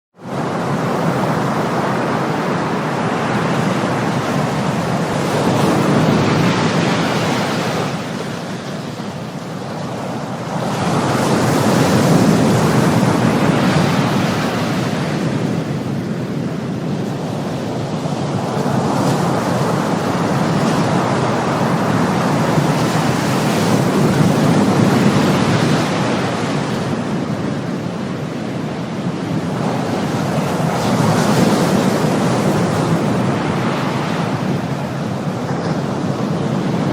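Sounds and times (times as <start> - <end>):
ocean waves washing on shore: 0.2 - 36.9.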